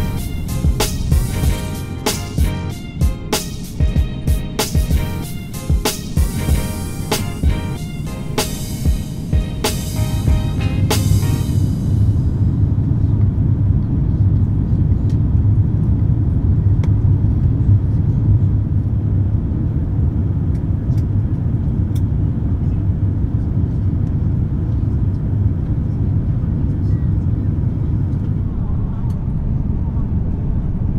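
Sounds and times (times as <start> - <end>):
airplane cabin engine rumble: 0.0 - 30.9.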